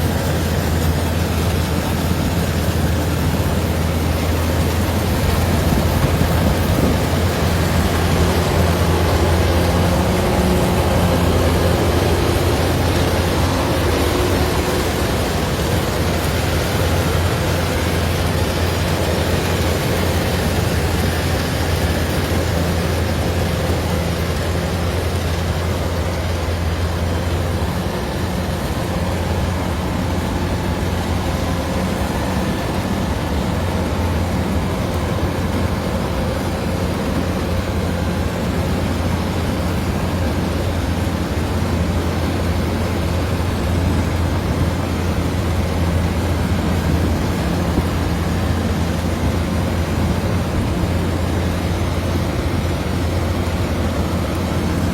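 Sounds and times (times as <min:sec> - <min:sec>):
combine harvester engine and machinery: 0:00.0 - 0:54.9.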